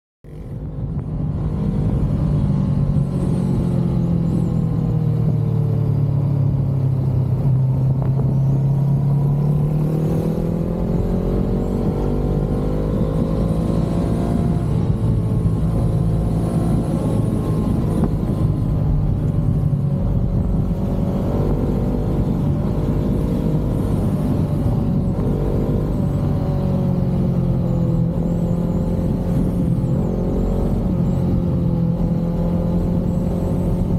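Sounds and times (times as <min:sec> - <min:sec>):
motorcycle engine revving: 0:00.2 - 0:33.9.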